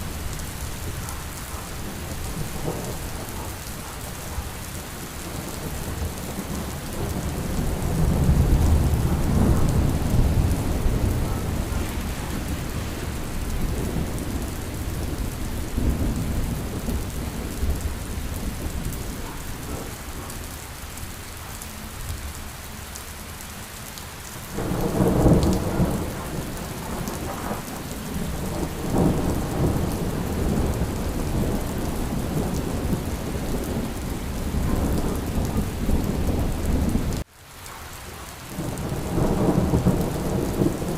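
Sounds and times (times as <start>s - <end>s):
steady rain: 0.0s - 40.9s
rolling thunder: 0.1s - 20.3s, 24.6s - 37.2s, 38.6s - 40.9s.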